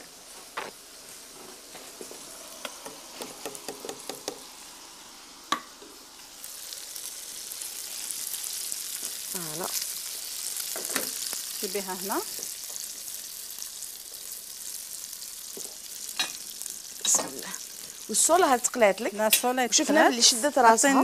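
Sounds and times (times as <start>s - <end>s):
fish frying in oil: 0.0s - 20.9s.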